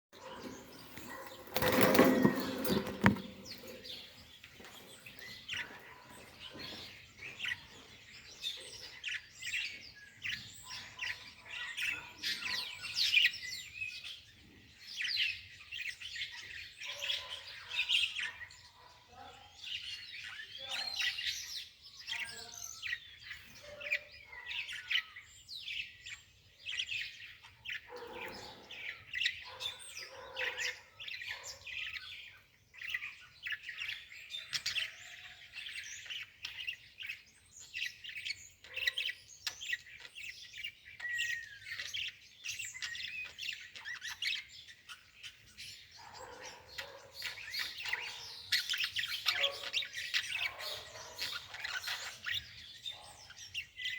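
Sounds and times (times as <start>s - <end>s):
many birds chirping: 0.0s - 53.9s.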